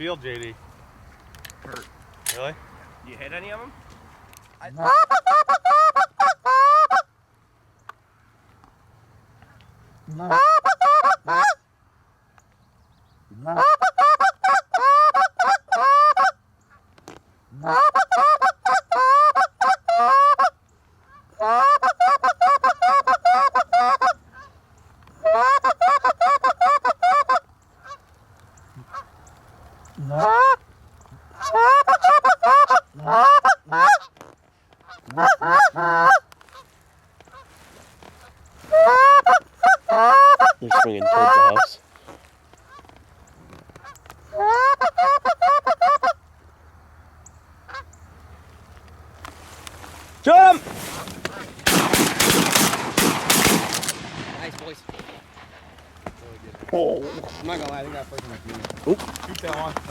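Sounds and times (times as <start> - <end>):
geese honking and clucking: 4.6 - 7.2, 9.4 - 11.6, 13.3 - 59.9.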